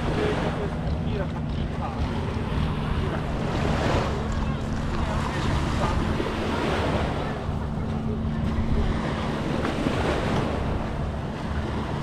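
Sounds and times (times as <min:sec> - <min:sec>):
surf washing on beach: 0:00.0 - 0:01.2, 0:02.0 - 0:12.0
low engine hum: 0:00.0 - 0:12.0.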